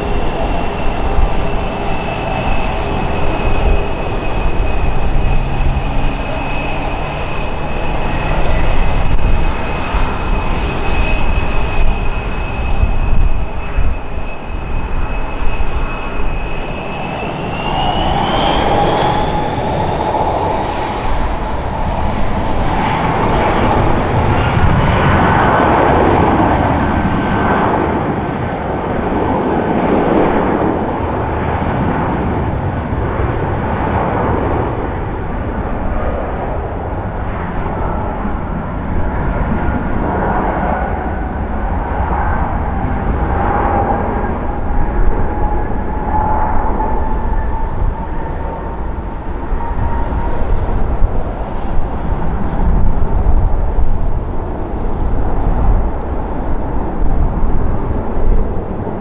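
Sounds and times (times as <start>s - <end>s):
jet engines whining and rumbling: 0.0s - 59.0s.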